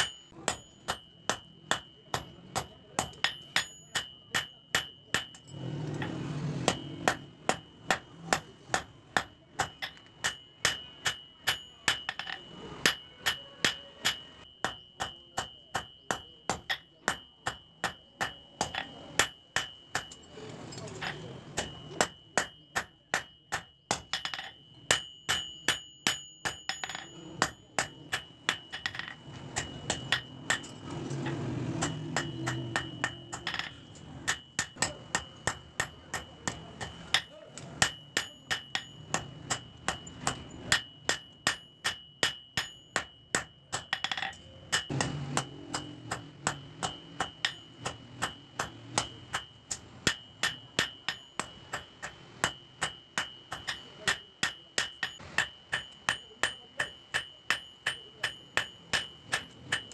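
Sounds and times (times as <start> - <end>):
hammer striking steel on anvil: 0.0 - 59.9.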